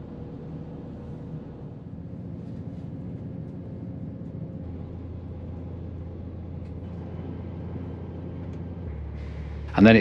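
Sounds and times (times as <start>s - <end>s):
deep hum: 0.0s - 10.0s
diesel train engine drone: 0.0s - 10.0s.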